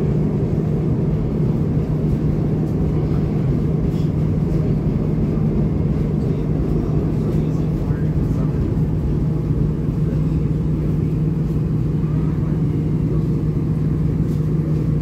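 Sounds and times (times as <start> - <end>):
train rumbling from inside car: 0.0 - 15.0.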